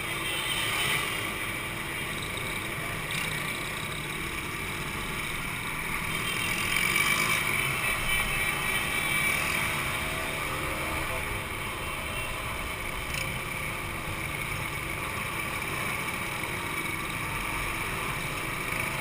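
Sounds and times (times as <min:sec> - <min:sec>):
two-stroke motorcycle engines: 0:00.0 - 0:19.0.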